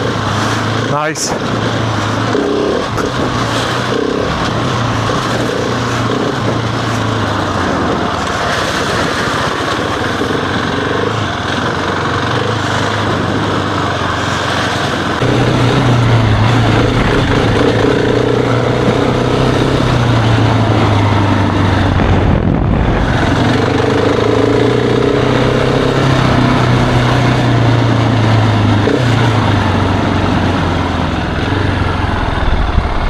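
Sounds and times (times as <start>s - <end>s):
constant rushing noise: 0.0s - 33.0s
motorcycle engine running: 0.0s - 33.0s.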